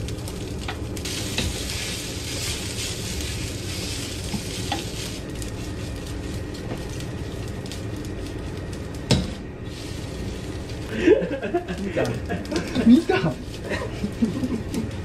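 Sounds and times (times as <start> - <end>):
rice sizzling in a frying pan: 0.0 - 15.0.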